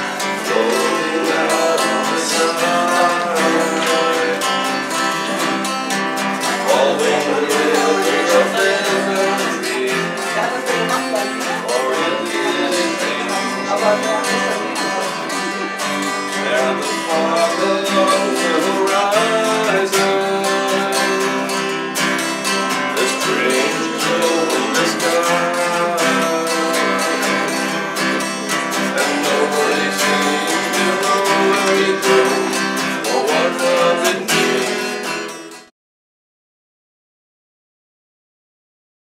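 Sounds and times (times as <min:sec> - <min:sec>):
acoustic guitar strumming: 0:00.0 - 0:35.7
person singing: 0:00.0 - 0:35.7.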